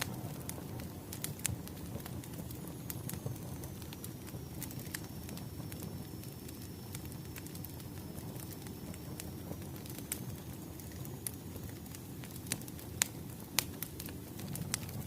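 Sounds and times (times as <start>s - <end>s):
low rumble of burning logs: 0.0s - 15.0s
wood fire pops and snaps: 0.0s - 15.0s.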